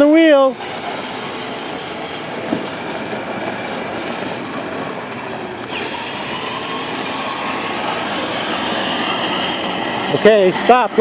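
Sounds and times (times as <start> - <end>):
plastic wheels rumbling: 0.0 - 11.0
electric motor whine: 0.5 - 11.0.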